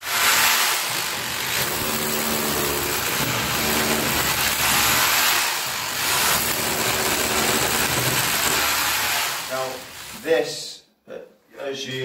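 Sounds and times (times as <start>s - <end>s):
hammer drill boring into brick: 0.0s - 10.2s.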